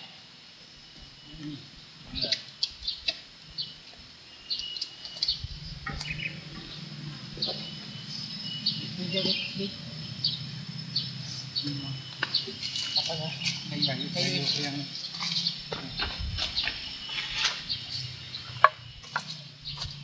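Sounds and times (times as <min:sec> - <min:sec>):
small birds chirping: 0:00.0 - 0:20.0
low steady hum: 0:00.2 - 0:20.0.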